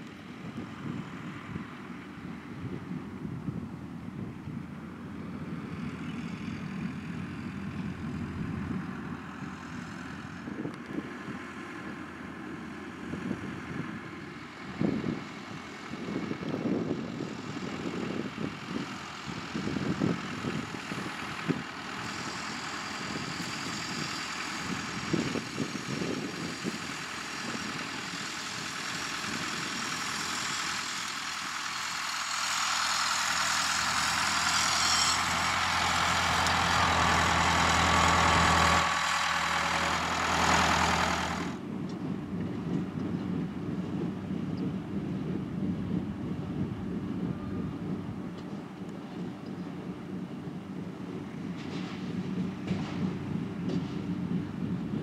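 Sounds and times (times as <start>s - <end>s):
tractor engines running: 0.0s - 55.0s.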